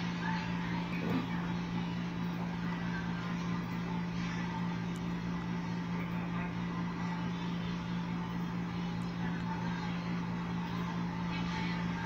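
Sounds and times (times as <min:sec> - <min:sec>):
low background hum with hiss: 0:00.0 - 0:12.0.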